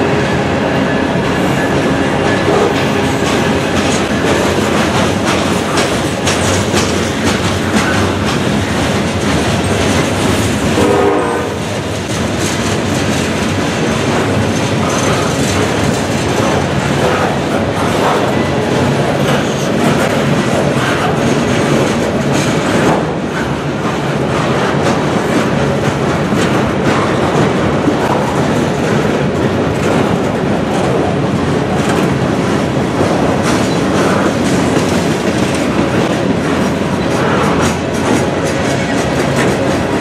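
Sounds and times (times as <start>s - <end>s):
wheels clacking over rail joints: 0.9s - 40.0s.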